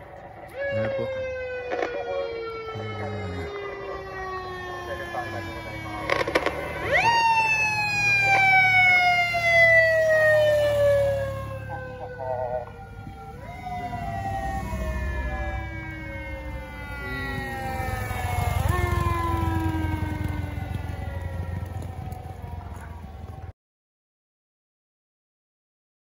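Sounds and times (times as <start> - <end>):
wailing siren: 0.0 - 23.6.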